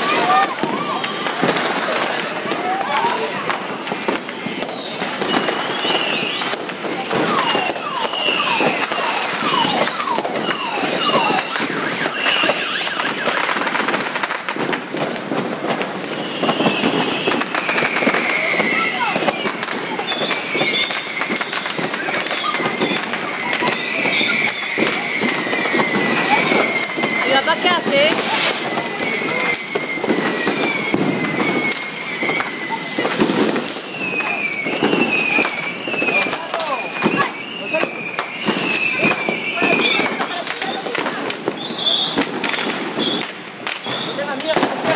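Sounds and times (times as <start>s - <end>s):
firecrackers popping: 0.0s - 44.9s
high whistles: 4.4s - 13.6s, 16.2s - 44.2s
falling whistles: 4.4s - 13.7s, 16.2s - 44.2s.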